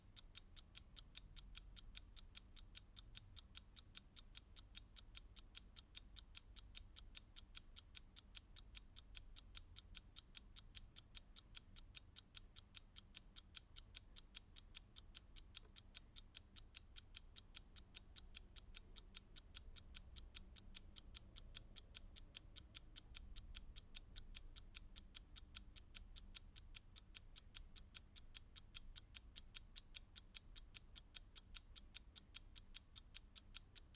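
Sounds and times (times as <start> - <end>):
mechanical clock ticking: 0.0 - 33.9.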